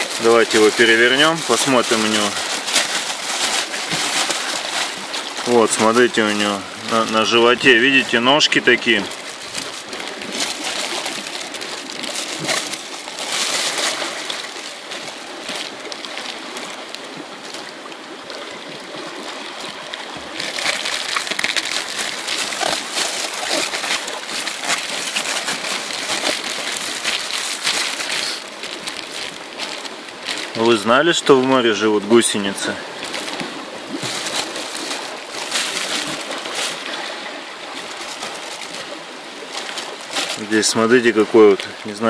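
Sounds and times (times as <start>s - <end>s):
plastic bag crinkling: 0.0s - 16.4s, 20.2s - 31.4s, 32.6s - 37.1s, 37.7s - 40.7s
water sloshing: 0.0s - 42.0s.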